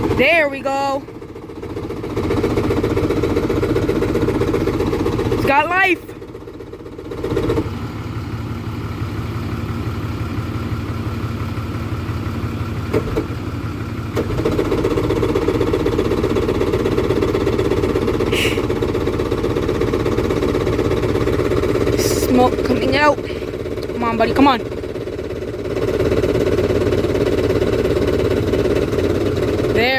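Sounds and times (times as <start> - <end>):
two-stroke engine running: 0.0 - 29.9.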